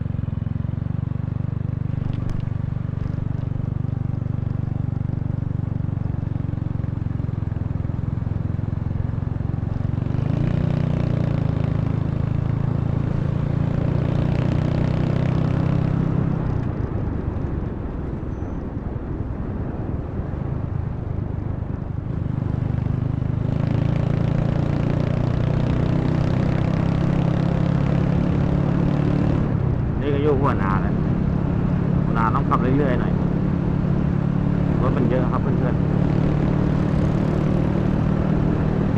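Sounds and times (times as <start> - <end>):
motorcycle engine running: 0.0 - 18.6, 22.0 - 38.9.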